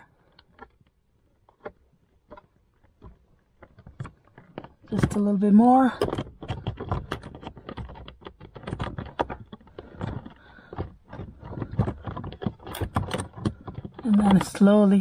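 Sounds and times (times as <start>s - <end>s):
fingers clicking and tapping plastic: 0.0s - 15.0s.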